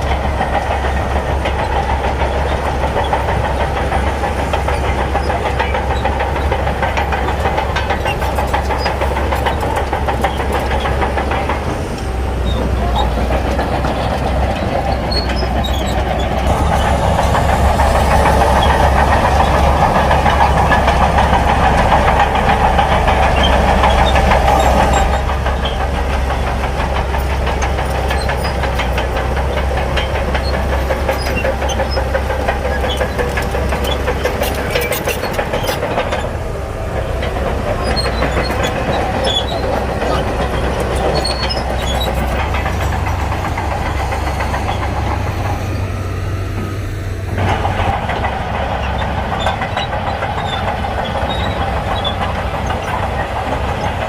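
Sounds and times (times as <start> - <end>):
heavy diesel machinery engine: 0.0 - 54.0.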